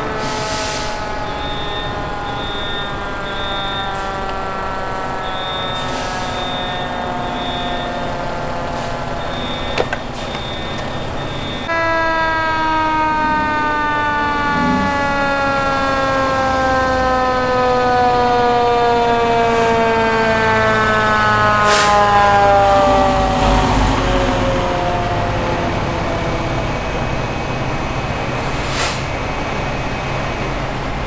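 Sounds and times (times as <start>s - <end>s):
fire engine siren wailing: 0.0s - 28.3s.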